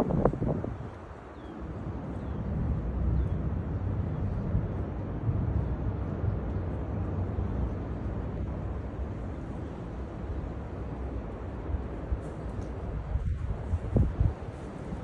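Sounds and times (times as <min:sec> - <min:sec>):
wind gusting over microphone: 0:00.0 - 0:15.0.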